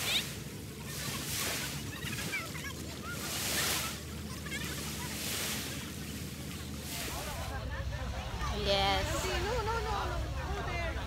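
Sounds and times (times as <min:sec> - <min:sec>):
waves washing up a beach: 0:00.0 - 0:10.8.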